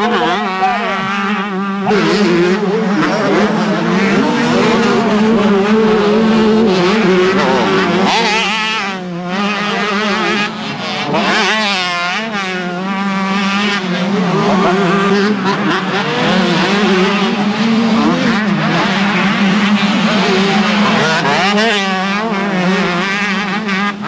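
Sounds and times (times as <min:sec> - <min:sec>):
motocross bike engines revving: 0:00.0 - 0:24.0
motorbike passing close: 0:00.0 - 0:24.0.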